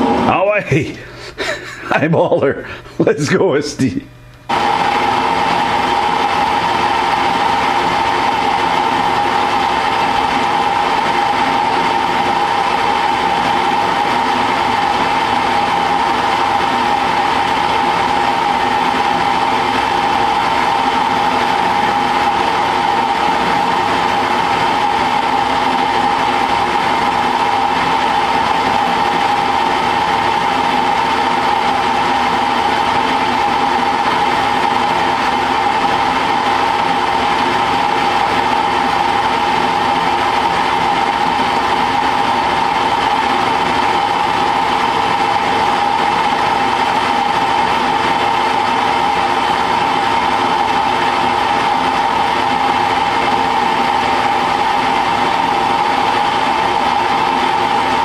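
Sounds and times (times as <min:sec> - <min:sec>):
mechanical hum: 0:00.0 - 0:58.0
metal lathe whining: 0:02.6 - 0:58.0.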